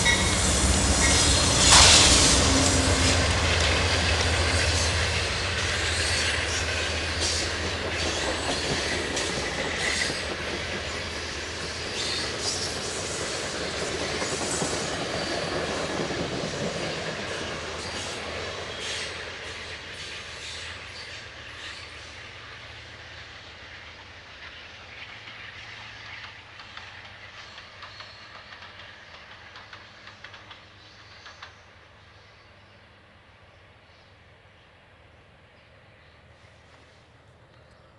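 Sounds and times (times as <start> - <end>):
train wheels clicking on rail joints: 0.0 - 32.8.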